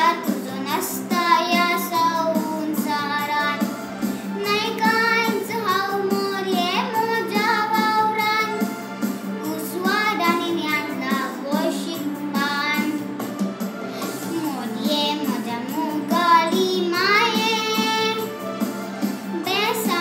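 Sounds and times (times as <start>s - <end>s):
girl singing a hymn: 0.0s - 3.7s, 4.3s - 8.7s, 9.4s - 13.2s, 14.0s - 18.3s, 19.3s - 20.0s.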